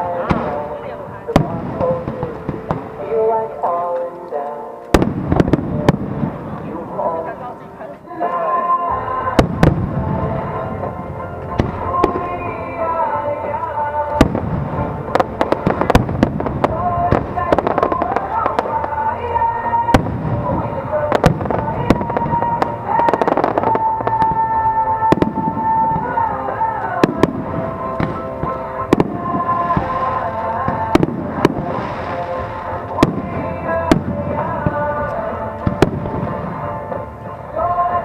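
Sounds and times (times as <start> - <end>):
fireworks bursting: 0.0 - 4.0, 4.9 - 7.4, 8.9 - 38.0
music over loudspeakers: 0.0 - 38.0.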